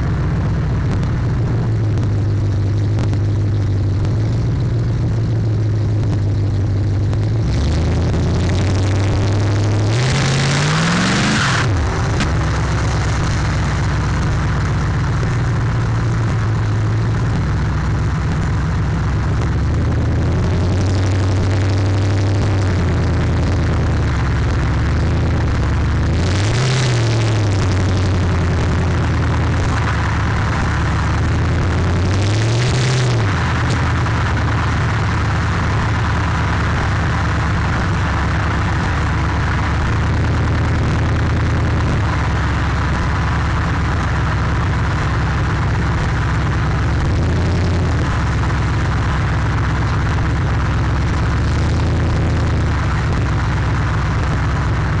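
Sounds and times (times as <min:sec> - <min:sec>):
loud car engine cruising: 0:00.0 - 0:55.0.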